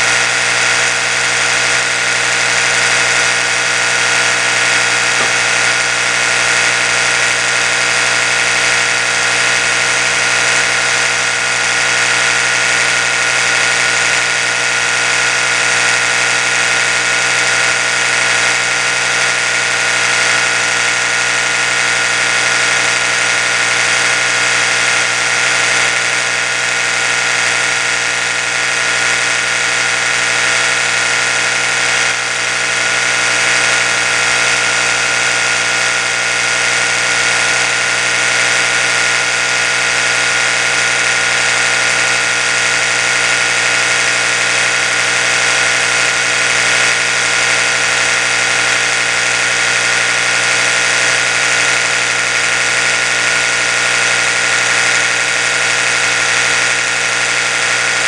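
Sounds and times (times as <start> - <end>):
electric toothbrush buzzing: 0.0 - 58.0.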